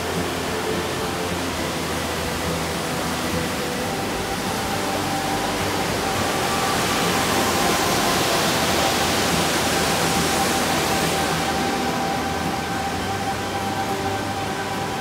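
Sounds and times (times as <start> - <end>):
stream rushing over boulders: 0.0 - 15.0.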